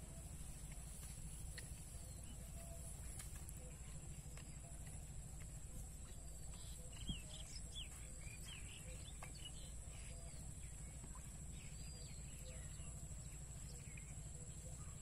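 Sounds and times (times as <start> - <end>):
birds chirping: 0.0 - 15.0
steady high-pitched whine: 0.0 - 15.0.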